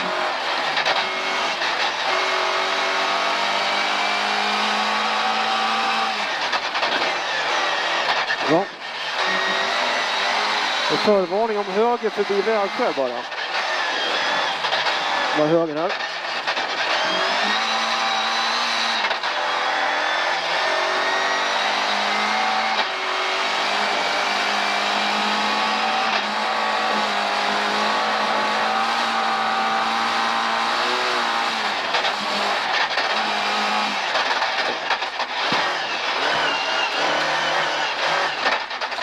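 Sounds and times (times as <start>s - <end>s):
car engine at full throttle: 0.0s - 39.0s.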